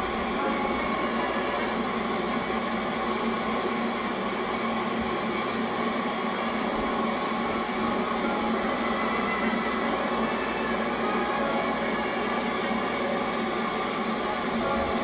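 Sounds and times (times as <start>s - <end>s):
mechanical whirring hum: 0.0s - 15.0s.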